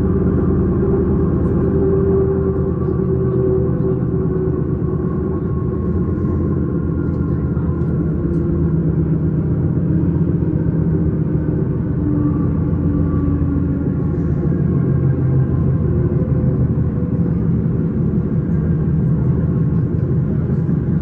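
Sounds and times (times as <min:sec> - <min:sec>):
train motor hum: 0:00.0 - 0:21.0
train wheels rumbling on rail: 0:00.0 - 0:21.0.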